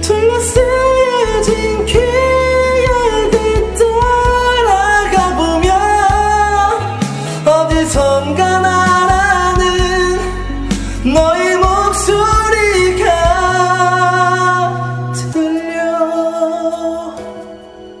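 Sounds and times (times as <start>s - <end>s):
instrumental accompaniment: 0.0s - 18.0s
person singing a pop ballad: 0.0s - 18.0s.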